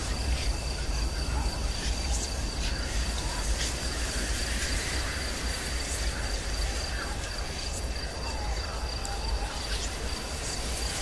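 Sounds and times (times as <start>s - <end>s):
high cricket-like chirr: 0.0s - 11.0s.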